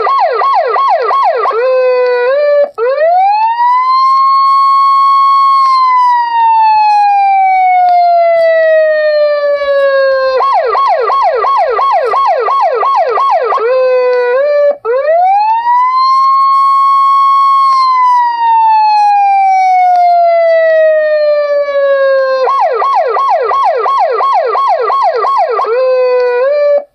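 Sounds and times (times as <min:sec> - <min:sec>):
electronic police siren ringtone: 0:00.0 - 0:26.9.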